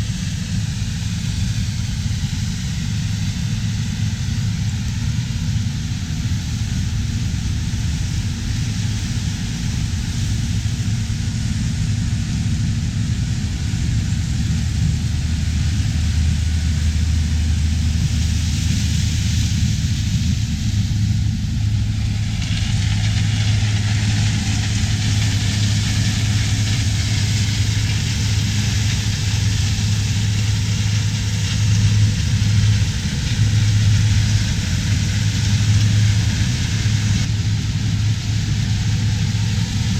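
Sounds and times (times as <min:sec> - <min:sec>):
diesel engines running: 0:00.0 - 0:39.9
machinery hiss: 0:00.0 - 0:39.9.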